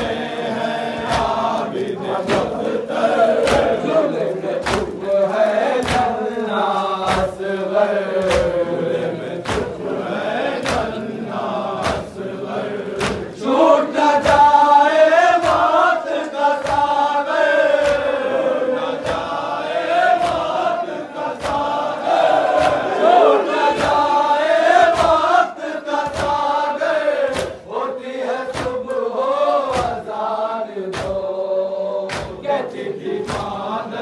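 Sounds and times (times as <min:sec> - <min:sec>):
crowd of men chanting: 0:00.0 - 0:34.0.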